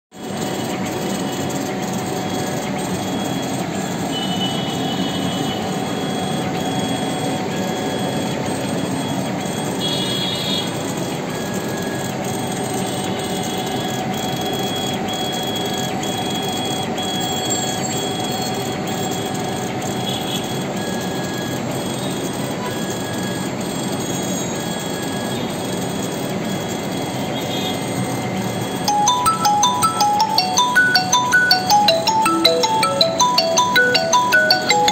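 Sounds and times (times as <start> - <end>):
laser engraver whirring: 0.2 - 28.9.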